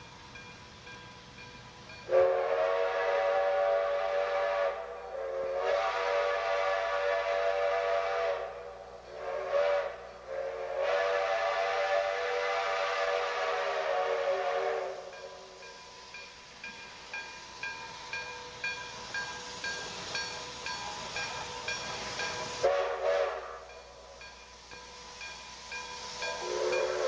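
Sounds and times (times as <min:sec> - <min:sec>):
steam whistle blasts: 0:02.0 - 0:15.8, 0:17.2 - 0:24.1, 0:24.8 - 0:27.0.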